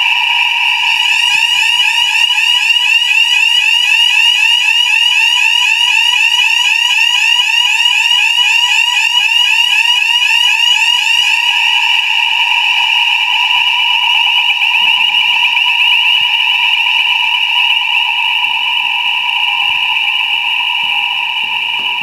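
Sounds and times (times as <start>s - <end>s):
fire alarm sounder: 0.0s - 22.0s.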